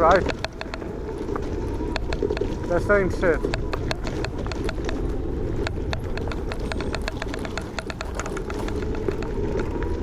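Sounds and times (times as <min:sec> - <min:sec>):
scooter frame rattling: 0:00.0 - 0:10.0
tyres rumbling on dirt: 0:00.0 - 0:10.0.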